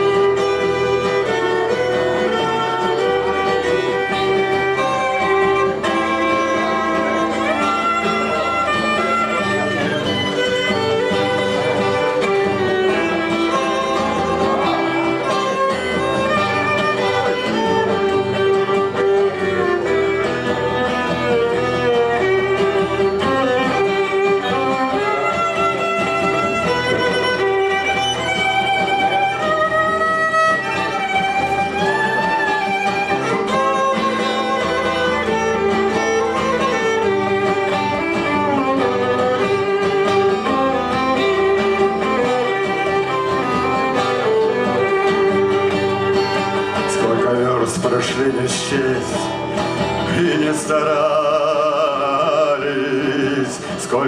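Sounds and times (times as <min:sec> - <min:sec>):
acoustic guitar strumming: 0:00.0 - 0:54.0
violin melody: 0:00.0 - 0:54.0.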